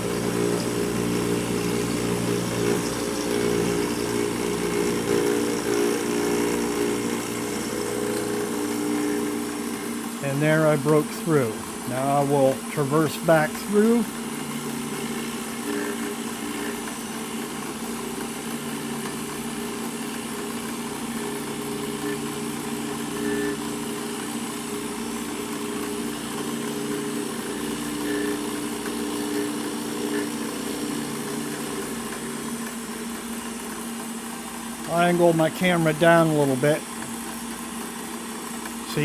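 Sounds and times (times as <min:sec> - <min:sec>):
milling machine humming: 0:00.0 - 0:39.0.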